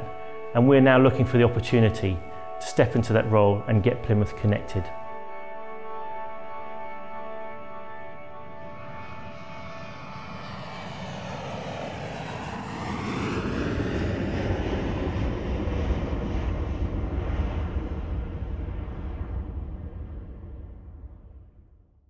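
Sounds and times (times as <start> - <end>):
jet airliner flying overhead: 0.0 - 21.0.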